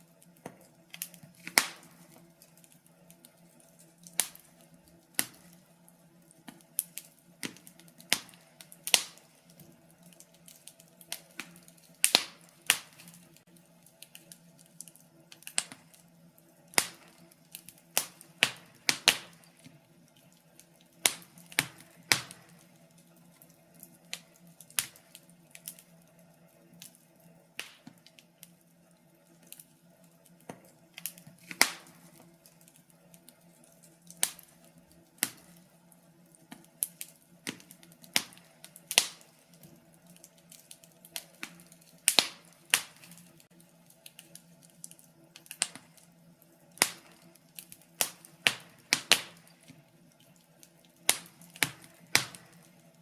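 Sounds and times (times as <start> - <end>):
faint steady hum: 0.0 - 53.0
wood fire crackling: 0.0 - 53.0.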